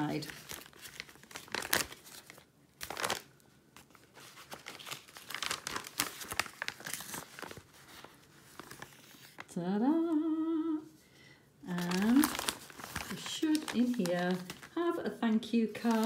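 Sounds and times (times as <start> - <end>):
paper mailer crinkling: 0.0 - 9.5, 11.7 - 16.0.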